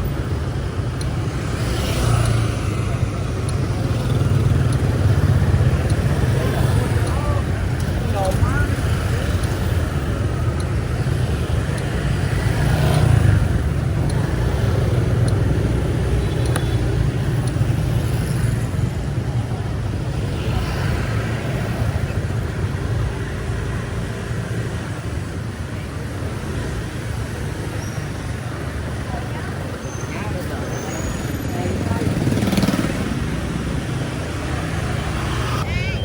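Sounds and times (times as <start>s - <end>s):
rumble of passing vehicles: 0.0s - 36.0s.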